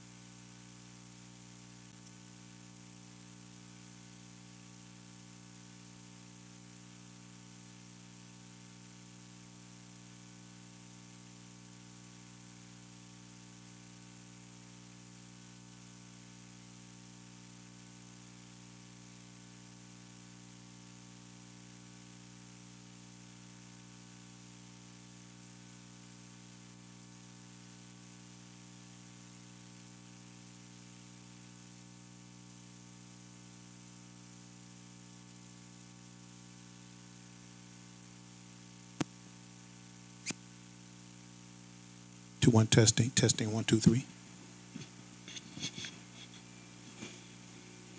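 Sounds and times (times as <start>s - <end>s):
electrical hum and buzz: 0.0s - 47.9s.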